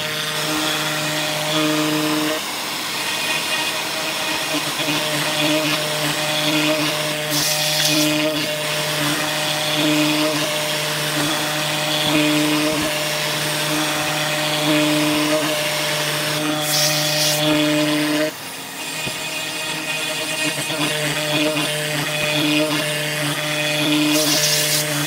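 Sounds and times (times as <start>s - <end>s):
router motor cutting wood: 0.0s - 25.0s.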